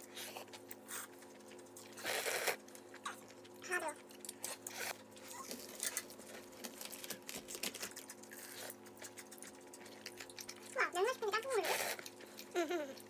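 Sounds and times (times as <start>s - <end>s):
faint steady hum: 0.0s - 13.0s
chewing clicks and crunches: 0.1s - 13.0s.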